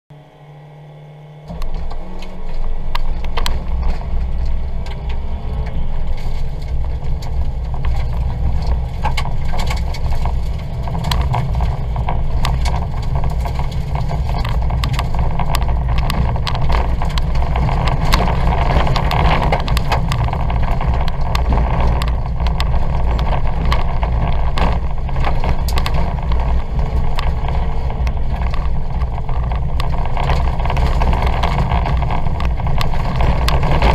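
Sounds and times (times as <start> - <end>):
car engine from inside cabin: 0.1 - 33.9
knocks and rattles on rough track: 1.5 - 33.9.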